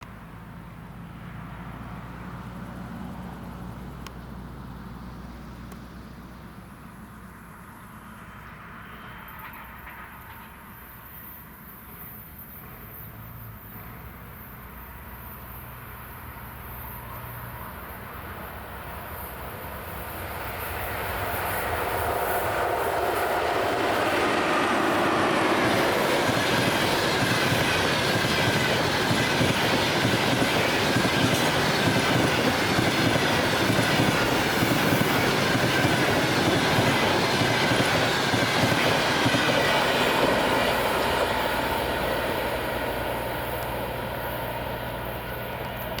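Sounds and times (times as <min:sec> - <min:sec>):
train rumble: 0:00.1 - 0:46.0.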